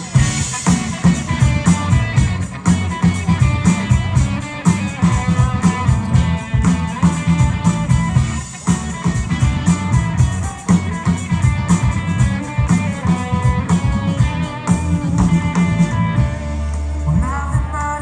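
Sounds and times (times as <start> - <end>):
drum kit beat: 0.0 - 18.0
electric guitar: 0.0 - 18.0.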